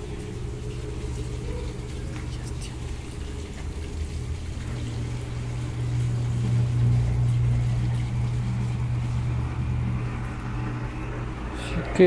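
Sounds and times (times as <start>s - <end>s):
washing machine drain pump humming: 0.0s - 12.0s.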